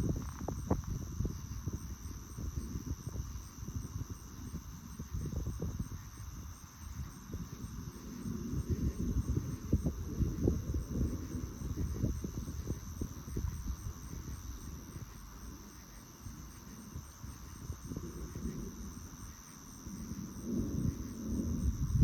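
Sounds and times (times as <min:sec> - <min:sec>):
faint regular pulsing: 0:00.0 - 0:22.0
night insects trilling: 0:00.0 - 0:22.0
wind rumble on microphone: 0:00.0 - 0:22.0.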